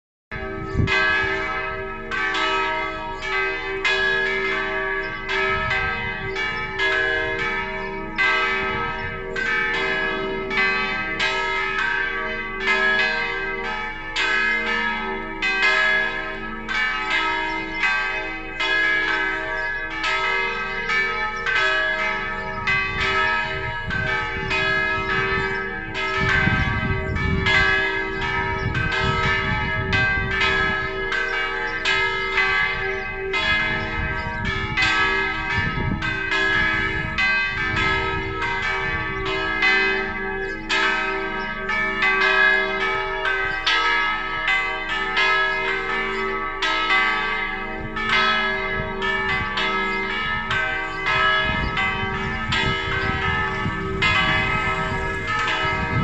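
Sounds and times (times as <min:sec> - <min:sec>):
church bell ringing: 0:00.3 - 0:56.0.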